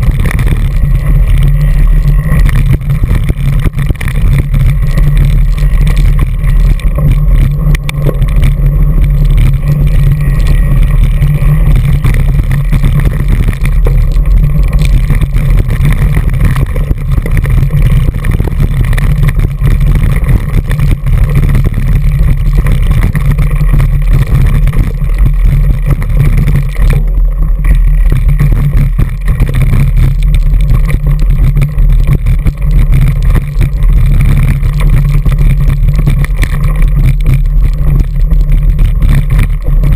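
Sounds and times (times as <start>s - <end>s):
wind rumble on camera: 0.0s - 39.9s.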